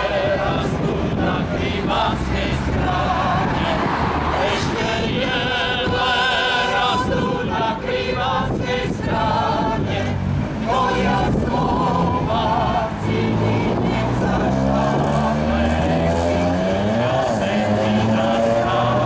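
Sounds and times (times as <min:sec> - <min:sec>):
choir singing a hymn: 0:00.0 - 0:19.0.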